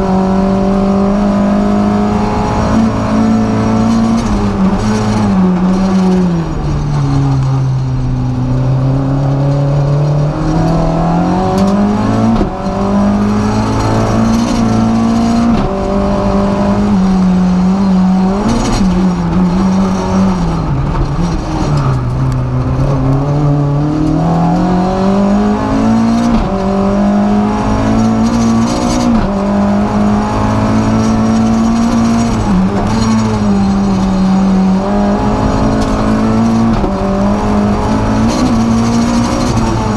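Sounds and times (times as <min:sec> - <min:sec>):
rally car engine accelerating: 0:00.0 - 0:39.9.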